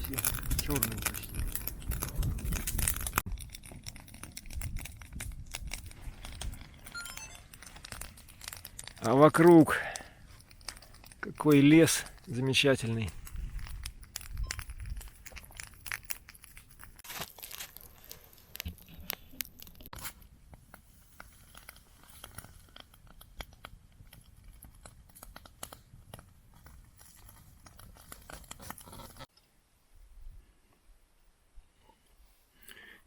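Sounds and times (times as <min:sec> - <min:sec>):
campfire crackling: 0:00.0 - 0:29.3.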